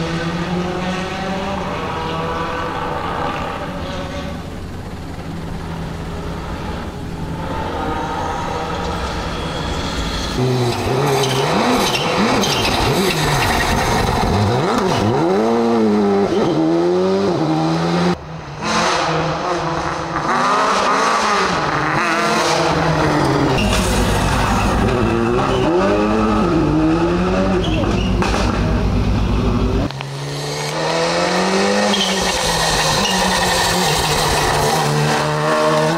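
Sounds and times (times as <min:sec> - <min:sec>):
rally cars racing past: 0:00.0 - 0:04.8, 0:06.0 - 0:35.9.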